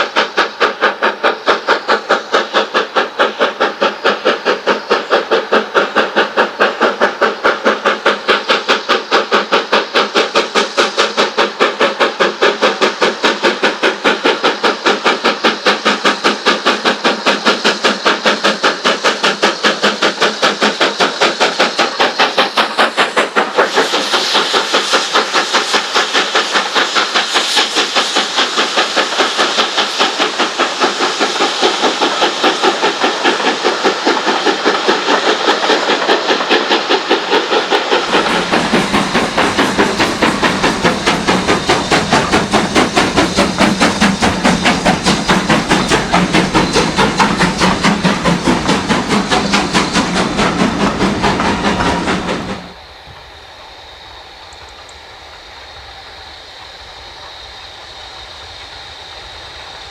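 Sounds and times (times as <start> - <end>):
steam hiss: 0.0 - 59.9
steam locomotive exhaust beats: 0.0 - 59.9.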